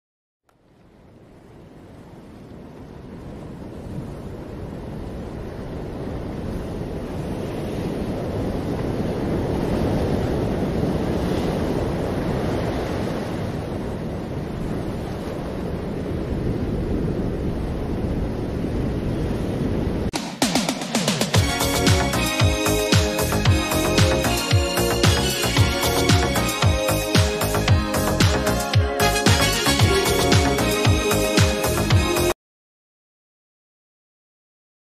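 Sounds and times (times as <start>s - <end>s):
ocean surf breaking over rocks: 0.7s - 28.9s.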